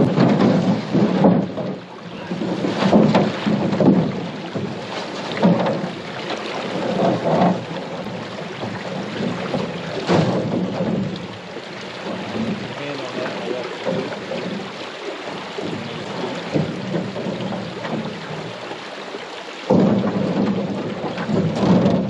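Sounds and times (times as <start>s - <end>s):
knocks on canoe: 0.0s - 19.0s, 19.6s - 22.0s
paddle strokes sloshing water: 0.0s - 22.0s
water wash: 0.0s - 22.0s.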